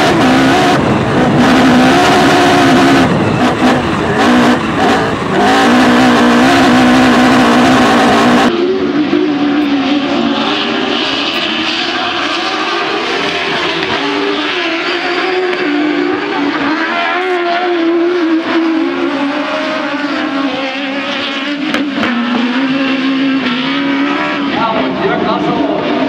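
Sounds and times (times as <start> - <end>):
racing buggy engines revving: 0.0 - 26.0.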